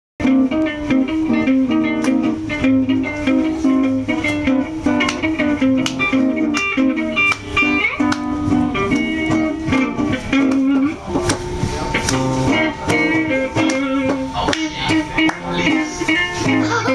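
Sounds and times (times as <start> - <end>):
electric guitar improvising: 0.2 - 16.9.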